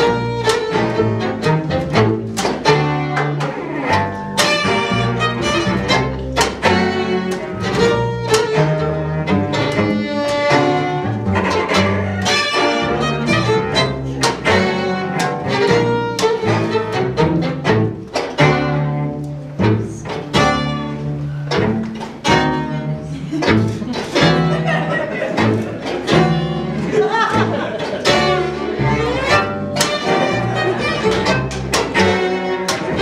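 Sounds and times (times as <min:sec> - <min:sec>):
string quartet playing lively piece: 0:00.0 - 0:33.0.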